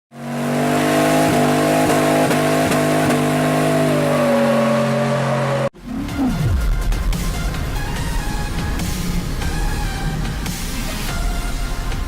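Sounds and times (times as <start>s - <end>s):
vehicle engine running: 0.1s - 12.0s.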